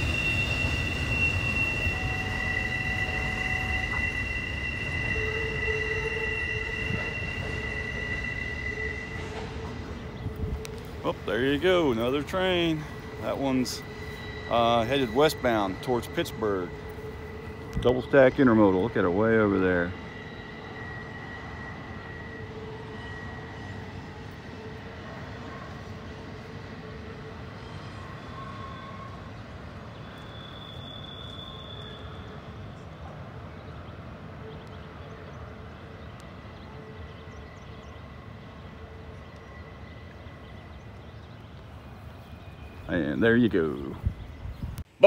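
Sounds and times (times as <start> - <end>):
distant freight train rumble: 0.0 - 45.0.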